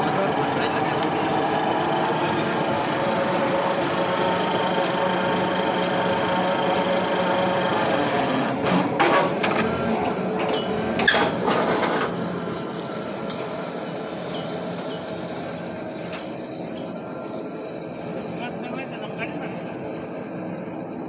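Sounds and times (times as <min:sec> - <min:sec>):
rig engine running: 0:00.0 - 0:21.0.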